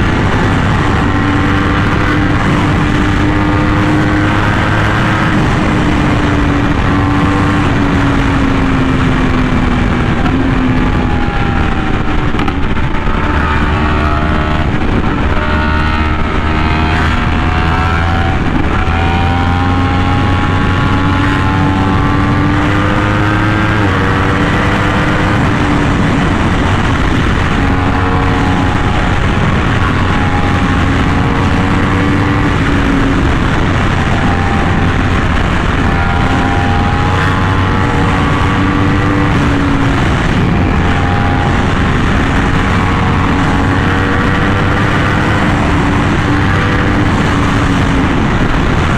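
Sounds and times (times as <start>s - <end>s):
heavy wind rush: 0.0s - 48.9s
motorcycle engine revving: 0.0s - 48.9s.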